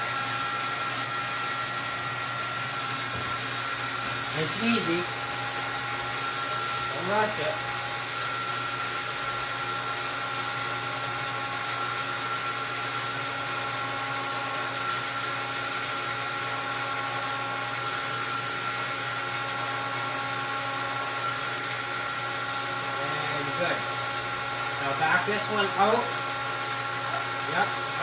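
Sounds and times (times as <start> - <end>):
metal lathe whining: 0.0 - 28.0.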